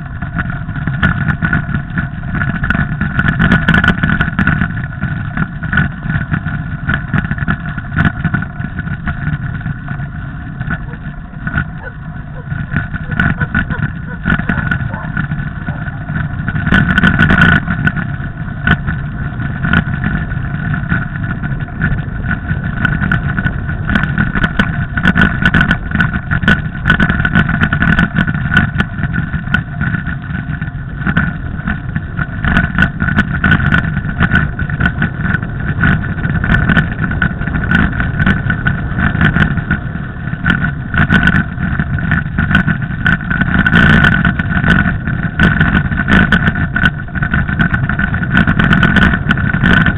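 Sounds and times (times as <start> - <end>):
bike clicks and rattles: 0.0 - 49.9
high whine: 0.0 - 49.9
wind and tyre rumble: 0.0 - 49.9.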